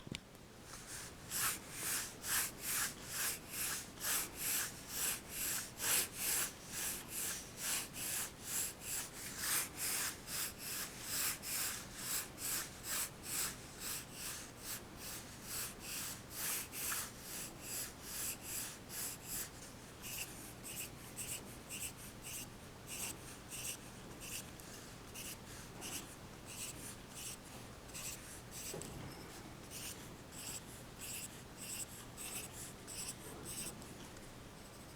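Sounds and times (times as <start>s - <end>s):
pencil scratching on paper: 1.3s - 24.5s, 25.1s - 28.8s, 29.7s - 33.7s.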